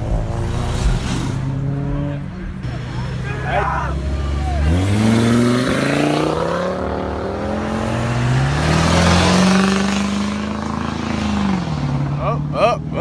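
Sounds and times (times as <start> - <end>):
car engine revving: 0.0 - 13.0
truck engine accelerating: 0.0 - 13.0.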